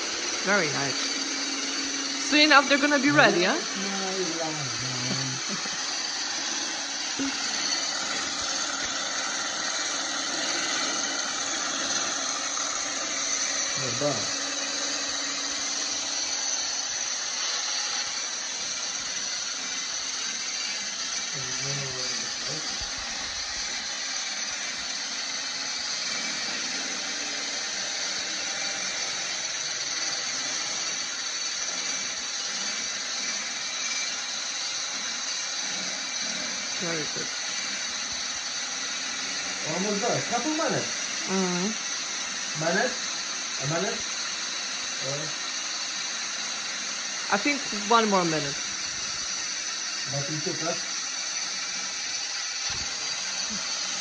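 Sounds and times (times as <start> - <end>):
electric mixer whipping egg whites: 0.0 - 54.0.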